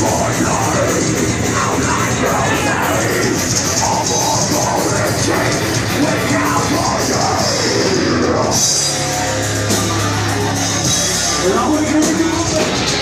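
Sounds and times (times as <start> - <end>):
heavy metal band playing live: 0.0 - 13.0.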